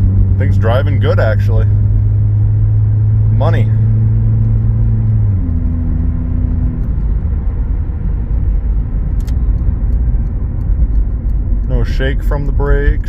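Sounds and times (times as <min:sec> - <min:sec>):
car engine hum: 0:00.0 - 0:13.0
tyre and road rumble: 0:00.0 - 0:13.0.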